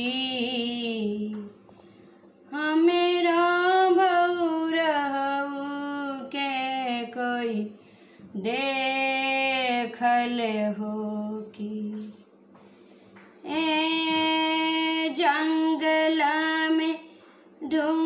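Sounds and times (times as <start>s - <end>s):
woman singing devotional song: 0.0s - 1.6s, 2.5s - 12.3s, 13.4s - 18.0s.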